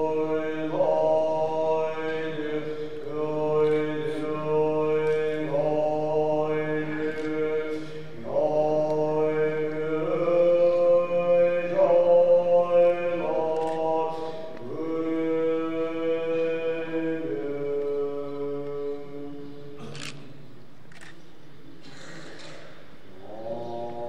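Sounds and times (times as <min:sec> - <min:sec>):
monk chanting into microphone: 0:00.0 - 0:20.0, 0:22.0 - 0:24.0.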